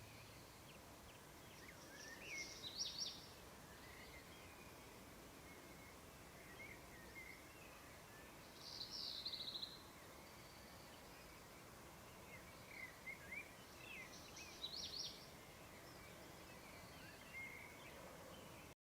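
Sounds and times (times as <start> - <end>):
small birds chirping: 0.0 - 18.8
steady low hiss: 0.0 - 18.8.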